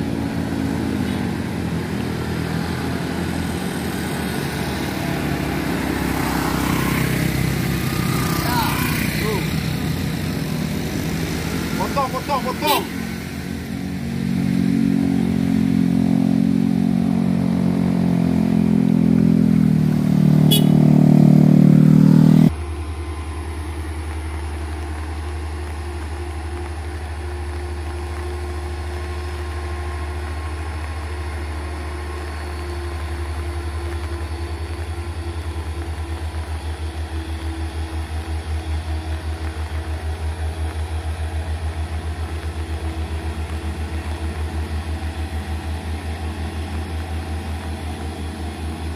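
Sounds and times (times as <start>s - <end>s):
car engine passing uphill: 0.0s - 48.9s
truck diesel engine labouring: 0.0s - 48.9s.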